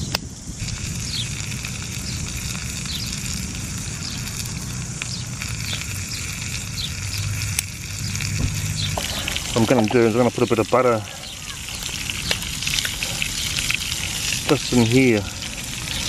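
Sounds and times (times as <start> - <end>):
fish sizzling in oil: 0.0 - 16.0
low steady rumble: 0.1 - 16.0.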